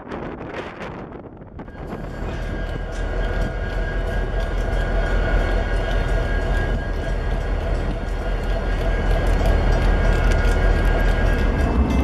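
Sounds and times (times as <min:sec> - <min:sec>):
diesel locomotive engine rumble: 0:00.0 - 0:12.0
wheel and rail noise: 0:00.0 - 0:12.0.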